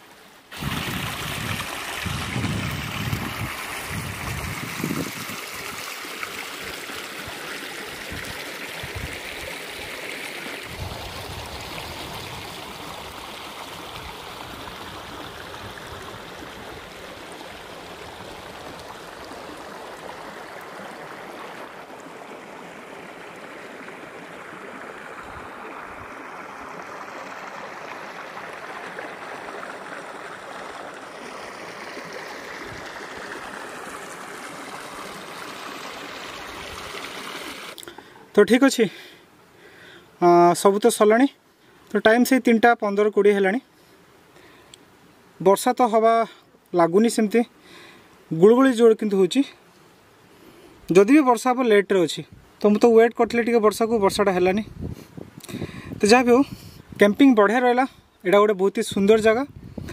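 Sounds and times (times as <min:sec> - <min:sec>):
stream trickling over rocks: 0:00.0 - 0:59.9.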